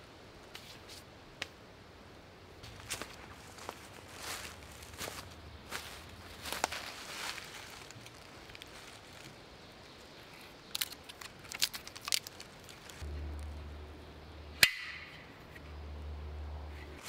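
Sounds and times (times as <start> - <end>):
dry bark crackling: 2.6 - 17.0.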